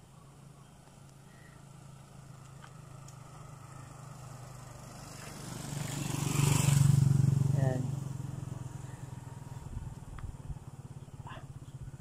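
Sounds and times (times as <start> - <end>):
motorcycle engine approaching: 0.4 - 12.0.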